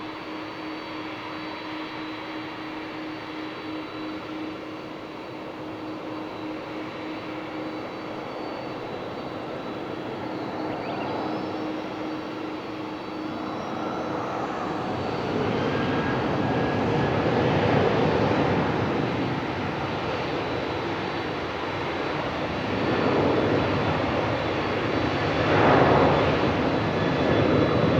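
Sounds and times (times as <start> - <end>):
high engine whine: 0.0 - 27.9
jet engines running: 0.0 - 27.9.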